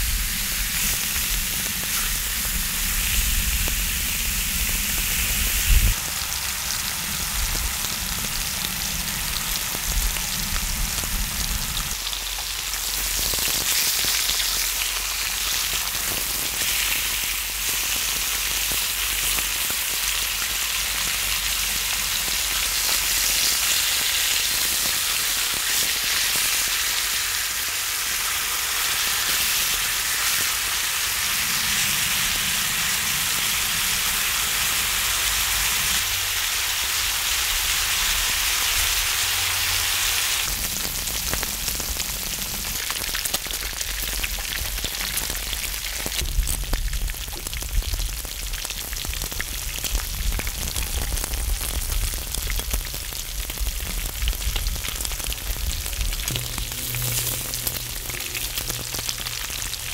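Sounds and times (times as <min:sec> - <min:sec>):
pork sizzling on a griddle: 0:00.0 - 0:59.9.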